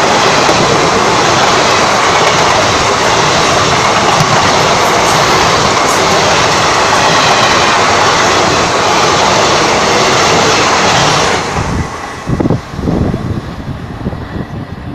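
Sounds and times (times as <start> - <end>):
trains passing wheels rushing: 0.0 - 14.9.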